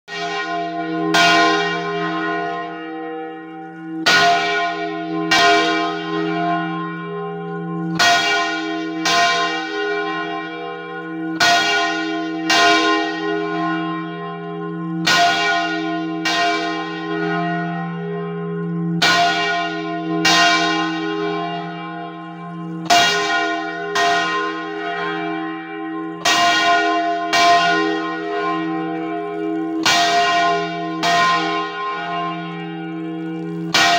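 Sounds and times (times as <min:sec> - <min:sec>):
church bell ringing: 0:00.1 - 0:33.9.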